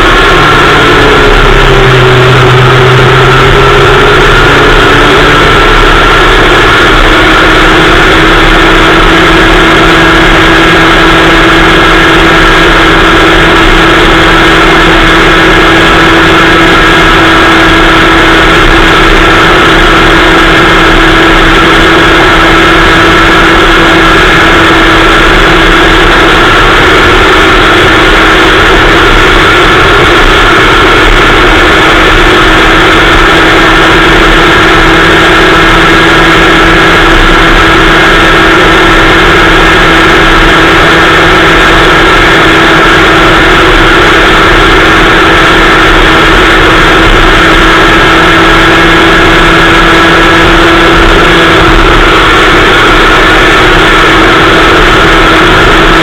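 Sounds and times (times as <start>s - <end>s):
kart engine running: 0.0s - 56.0s.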